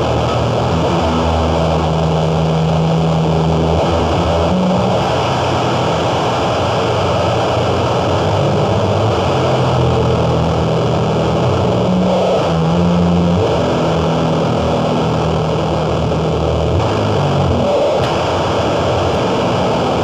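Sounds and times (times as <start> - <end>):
distorted noise music: 0.0 - 20.0
low droning tones: 0.0 - 20.0.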